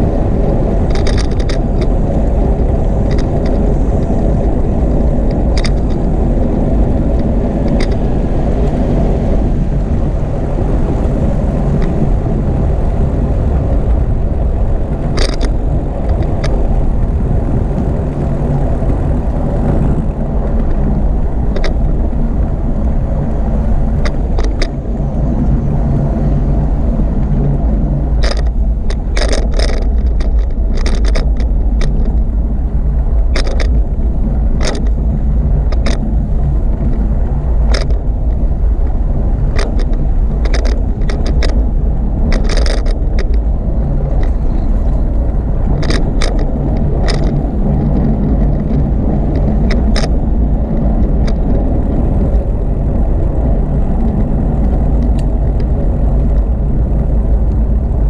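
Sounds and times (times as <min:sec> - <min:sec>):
bicycle clicks and rattles: 0:00.0 - 0:58.0
wind and rolling noise: 0:00.0 - 0:58.0.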